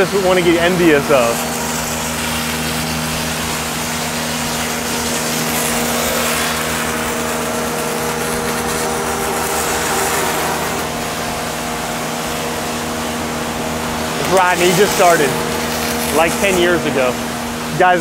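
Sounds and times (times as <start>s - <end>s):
welding hissing crackle: 0.0s - 18.0s
welding machine hum: 0.0s - 18.0s.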